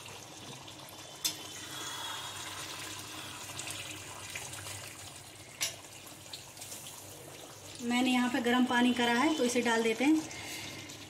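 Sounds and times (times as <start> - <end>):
gravy bubbling and sizzling: 0.0 - 11.0.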